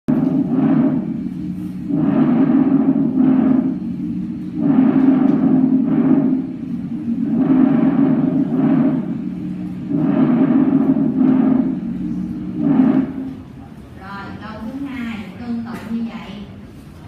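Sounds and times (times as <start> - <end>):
steady low droning tone: 0.1 - 14.9.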